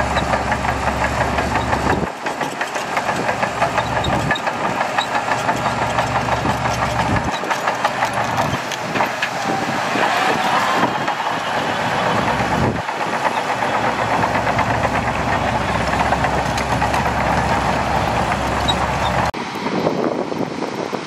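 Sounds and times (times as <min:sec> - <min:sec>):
bulldozer diesel engine running: 0:00.0 - 0:19.4.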